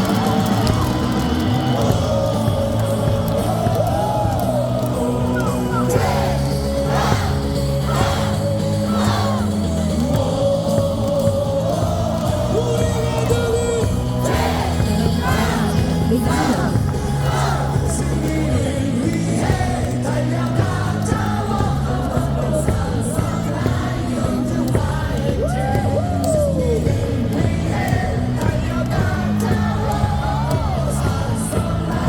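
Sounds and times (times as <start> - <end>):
crowd singing and yelling: 0.0 - 32.0
loudspeaker music with bass: 0.0 - 32.0.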